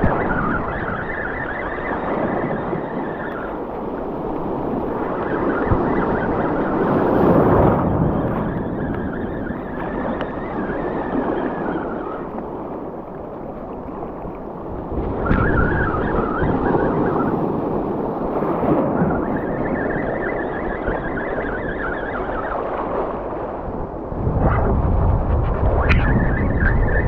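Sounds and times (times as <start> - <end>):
surf washing over rocks: 0.0 - 27.0
wind rumbling on microphone: 0.0 - 27.0.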